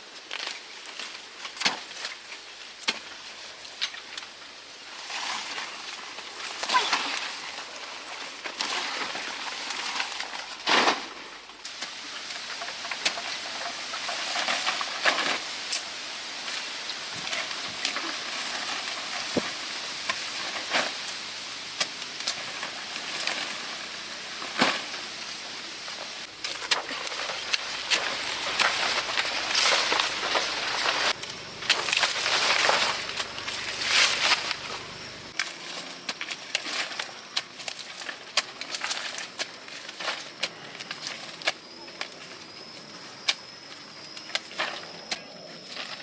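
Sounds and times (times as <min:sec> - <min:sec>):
leaves and brush rustling: 0:00.0 - 0:46.0.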